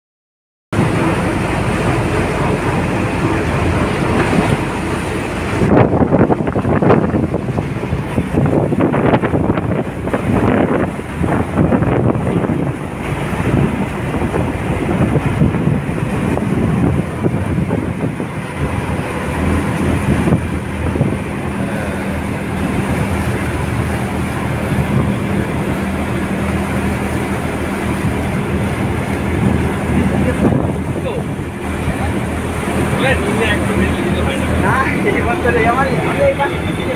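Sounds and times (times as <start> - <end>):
boat engine rumble: 0.7 - 36.9
water noise: 0.7 - 36.9
wind buffeting microphone: 0.8 - 36.9.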